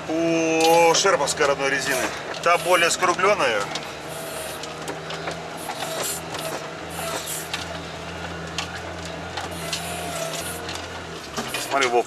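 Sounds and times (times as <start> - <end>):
clicks and rattles in cab: 0.0 - 12.0
vehicle engine low hum: 0.0 - 12.0.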